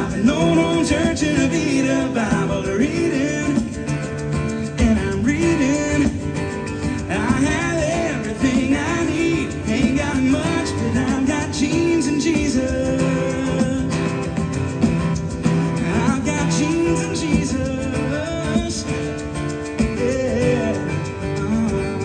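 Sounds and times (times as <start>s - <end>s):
country gospel band playing: 0.0s - 22.0s.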